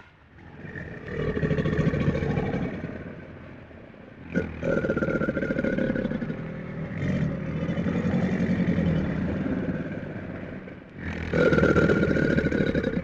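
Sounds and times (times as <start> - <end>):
animal growling: 0.3 - 3.6, 4.2 - 13.0.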